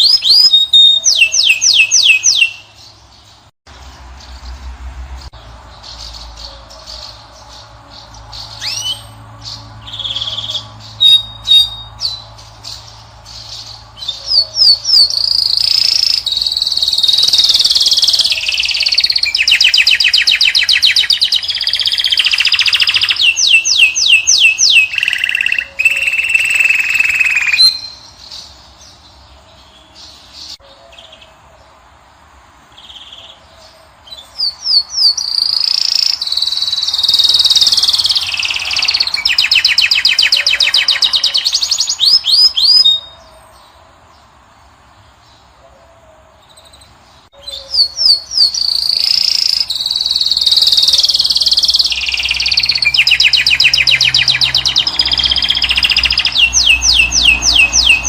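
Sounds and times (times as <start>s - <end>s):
goldfinch twittering song: 0.0s - 31.3s, 32.8s - 43.2s, 46.6s - 58.0s.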